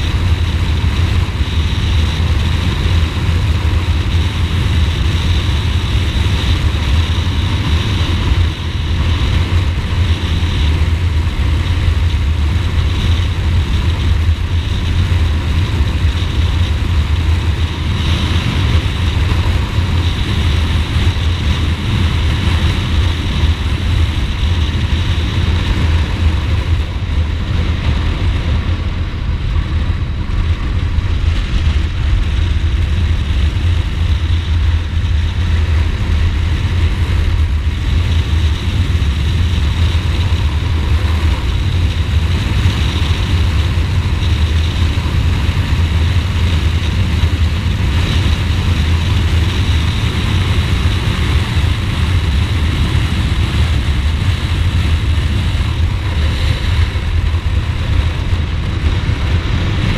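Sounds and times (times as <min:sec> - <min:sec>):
motorcycle engine running: 0:00.0 - 0:59.9
road noise: 0:00.0 - 0:59.9
wind rush: 0:00.0 - 0:59.9.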